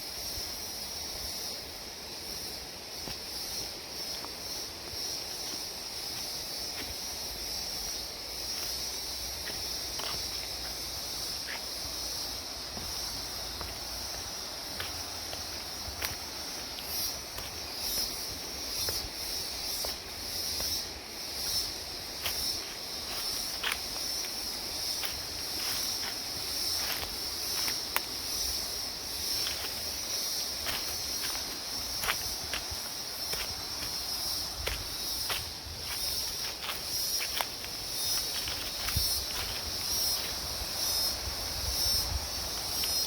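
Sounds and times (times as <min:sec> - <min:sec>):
high-pitched insect chorus: 0:00.0 - 0:43.0
footsteps on garden path: 0:02.4 - 0:43.0.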